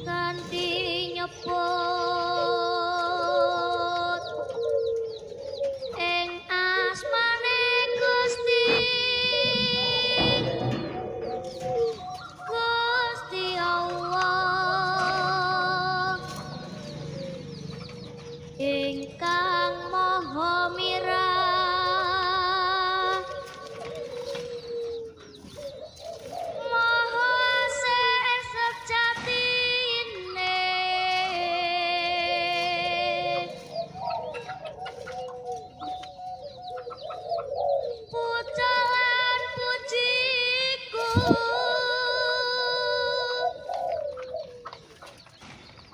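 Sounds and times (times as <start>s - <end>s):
slow melody of held notes: 0.0s - 45.1s.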